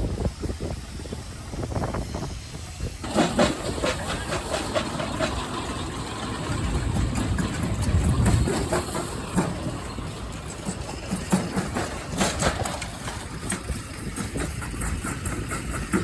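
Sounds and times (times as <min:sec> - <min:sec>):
engine machinery rumble: 0:00.0 - 0:16.0
fast irregular clicking clatter: 0:03.0 - 0:16.0.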